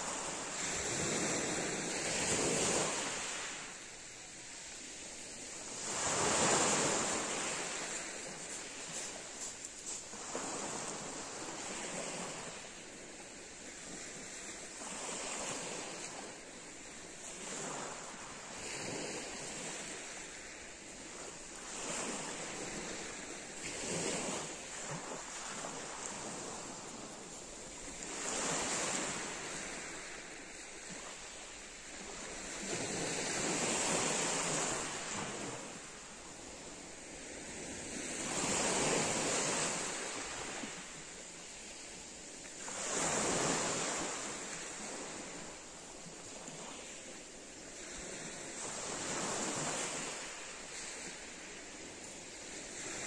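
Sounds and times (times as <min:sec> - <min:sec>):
waves washing up pebble beach: 0:00.0 - 0:53.0.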